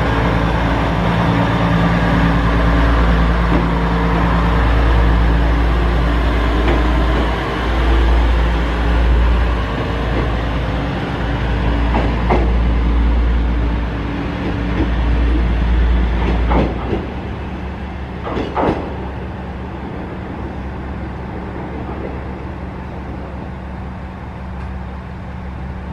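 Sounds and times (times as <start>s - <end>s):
diesel railcar engine rumble: 0.0s - 25.9s
railcar hum: 0.0s - 25.9s.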